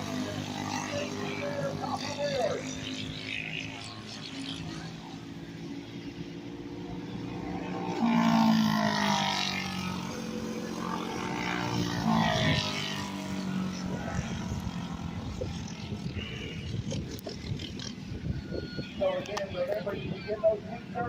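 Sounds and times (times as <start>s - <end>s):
small racing engines passing: 0.0s - 21.0s.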